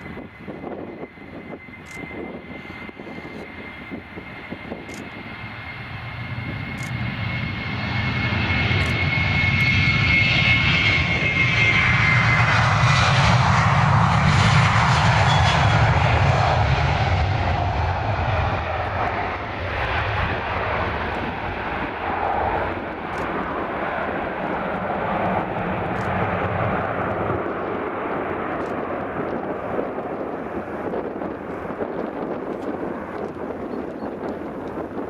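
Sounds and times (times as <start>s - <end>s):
high engine whine: 0.0s - 29.4s
jet engines on take-off: 0.0s - 35.0s.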